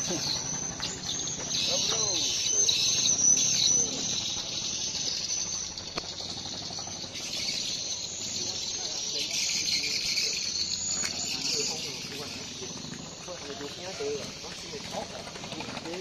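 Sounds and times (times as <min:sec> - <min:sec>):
faint voices: 0:00.0 - 0:05.4, 0:07.0 - 0:16.0
insects chorus: 0:00.0 - 0:16.0.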